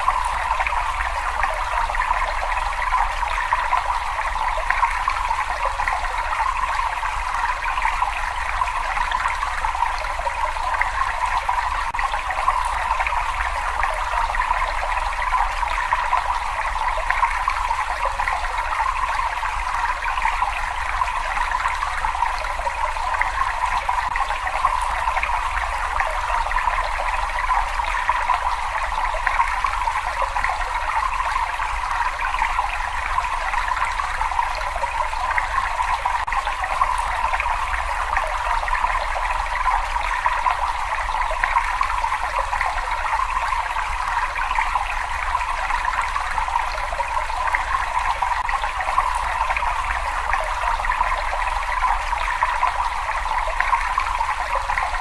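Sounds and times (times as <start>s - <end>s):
water running and trickling: 0.0s - 55.0s.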